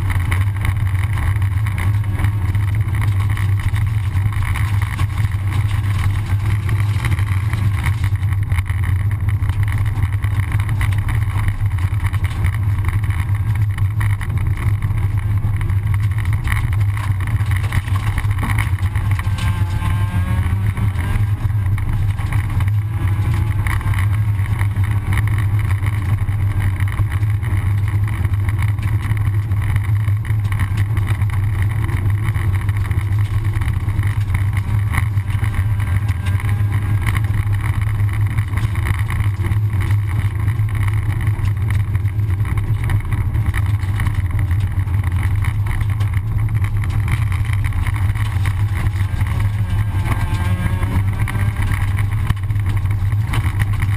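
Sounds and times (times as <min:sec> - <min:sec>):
car engine drone from inside: 0:00.0 - 0:53.9
tyres on gravel: 0:00.0 - 0:53.9.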